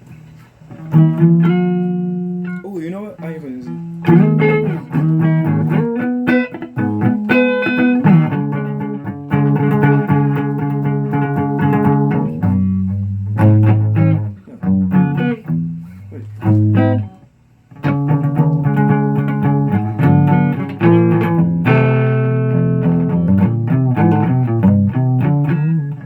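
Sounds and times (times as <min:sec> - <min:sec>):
guitar playing: 0:00.7 - 0:26.0.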